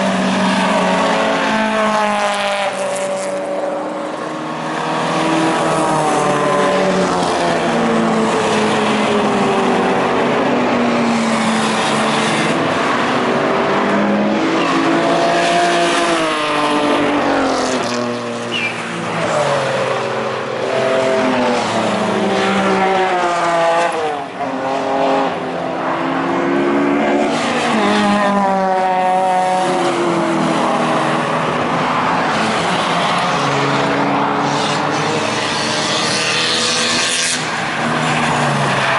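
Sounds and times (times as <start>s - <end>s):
car engines revving: 0.0s - 38.9s
cars passing by: 0.0s - 38.9s.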